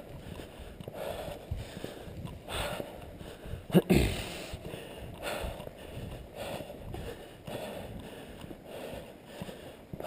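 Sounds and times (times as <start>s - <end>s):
footsteps on concrete: 0.0s - 10.0s.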